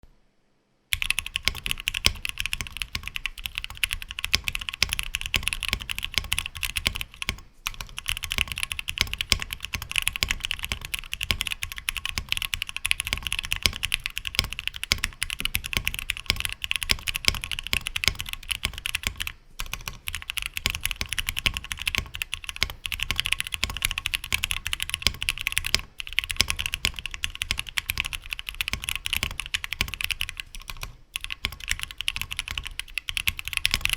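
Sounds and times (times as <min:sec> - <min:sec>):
mechanical keyboard typing: 0:00.9 - 0:33.9.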